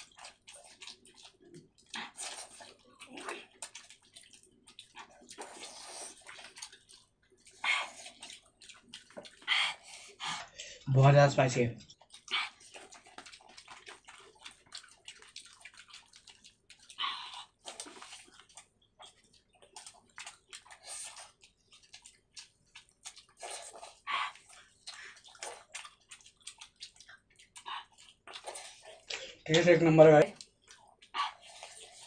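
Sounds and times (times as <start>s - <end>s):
lip-smacks and slurps: 0.0s - 32.0s
wet eating sounds: 0.0s - 32.0s.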